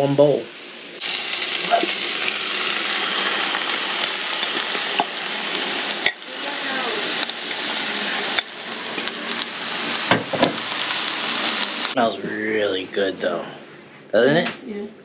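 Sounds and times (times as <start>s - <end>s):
vegetables sizzling in a skillet: 0.0s - 13.0s.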